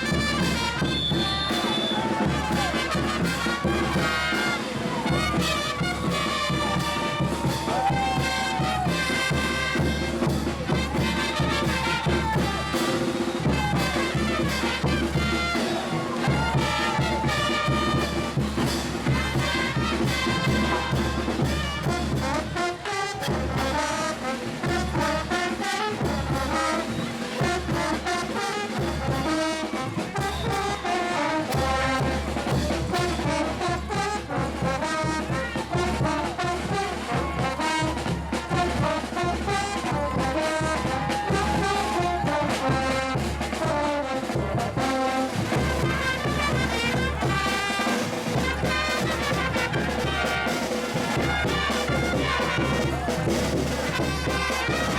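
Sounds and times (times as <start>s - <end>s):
brass band playing parade music: 0.0s - 54.9s.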